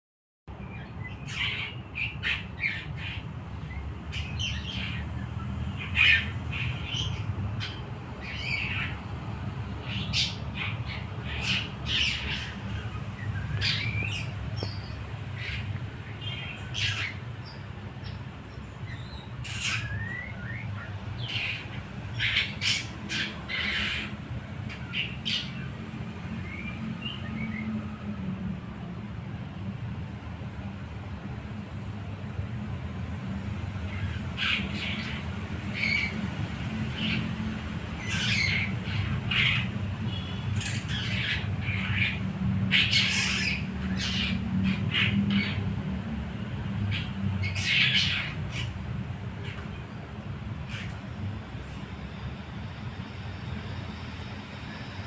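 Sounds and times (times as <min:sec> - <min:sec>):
bird calls and chirps: 0:00.5 - 0:28.0, 0:33.8 - 0:45.9, 0:46.7 - 0:50.0, 0:50.6 - 0:52.2.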